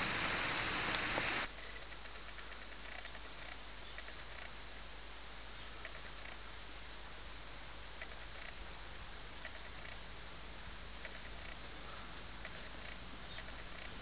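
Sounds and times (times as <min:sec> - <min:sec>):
steady faint hiss: 0:00.0 - 0:14.0.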